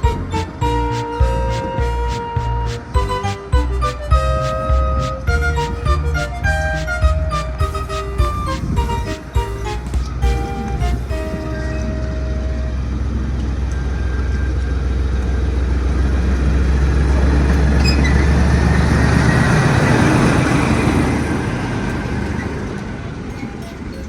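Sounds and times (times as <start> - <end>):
train passing: 0.0 - 24.0.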